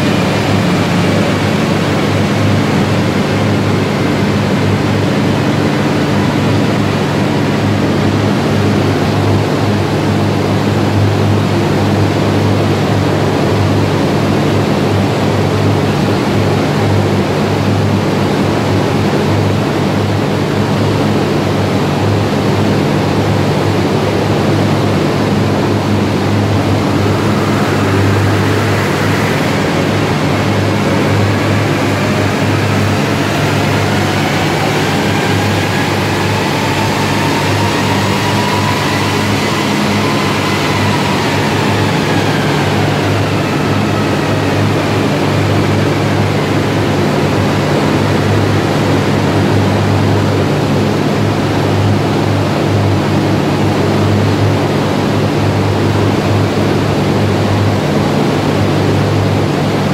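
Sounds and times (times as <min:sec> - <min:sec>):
low hum: 0:00.0 - 0:52.7
faint whine rising in pitch: 0:00.0 - 0:59.9
large cooling fan rushing: 0:00.0 - 0:59.9.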